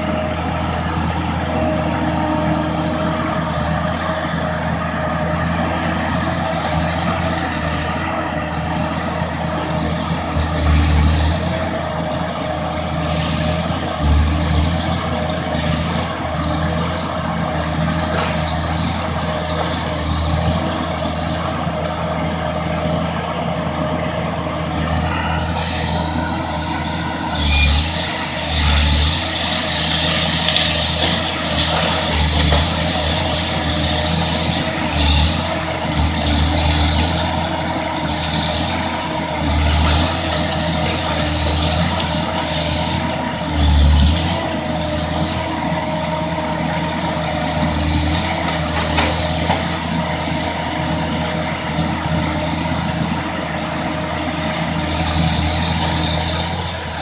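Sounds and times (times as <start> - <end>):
constant whine: 0.0 - 47.7
harvester diesel engine running: 0.0 - 57.0.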